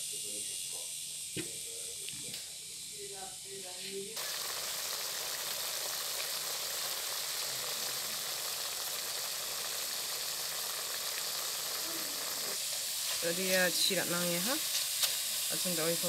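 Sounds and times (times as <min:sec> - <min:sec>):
tripe sizzling in a wok: 0:00.0 - 0:16.0.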